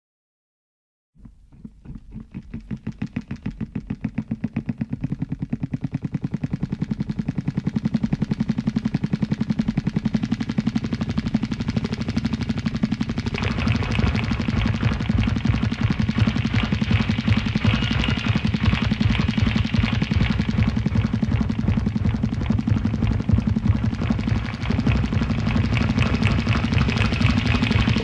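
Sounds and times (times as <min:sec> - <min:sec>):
pulsing low drone: 0:01.4 - 0:28.0.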